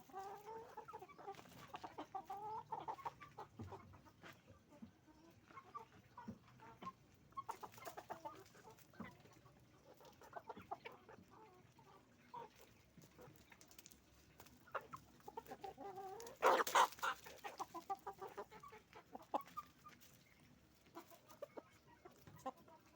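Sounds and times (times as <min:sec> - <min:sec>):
hens and roosters clucking: 0:00.0 - 0:22.9.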